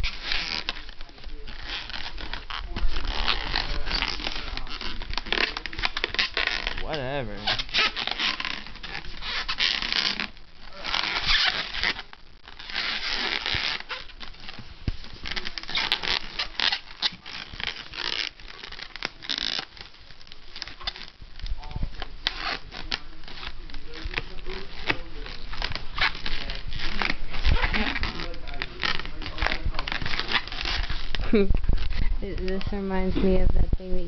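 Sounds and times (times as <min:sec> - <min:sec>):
balloon rubbing and squeaking: 0:00.0 - 0:34.0.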